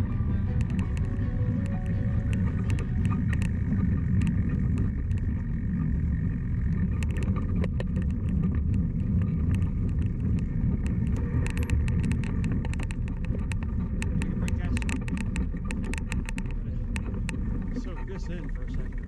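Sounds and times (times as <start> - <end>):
bike rattling over bumps: 0.0 - 19.0
bike tyres rumbling on dirt: 0.0 - 19.0.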